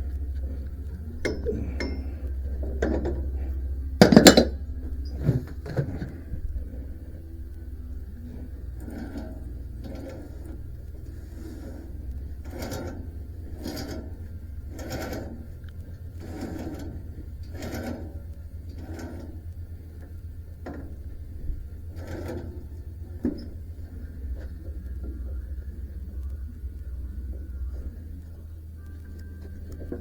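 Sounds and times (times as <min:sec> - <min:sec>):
steady low hum: 0:00.0 - 0:30.0
mechanical scraping strokes: 0:00.1 - 0:26.2.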